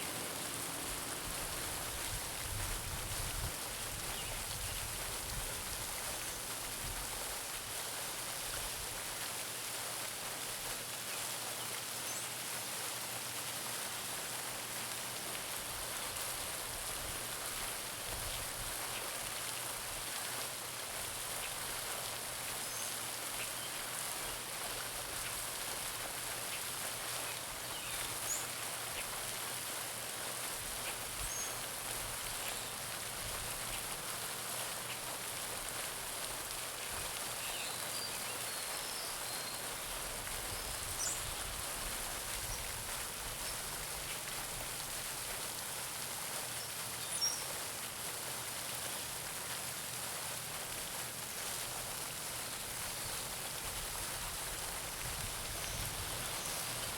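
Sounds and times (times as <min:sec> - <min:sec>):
fountain splashing into pond: 0:00.0 - 0:56.9.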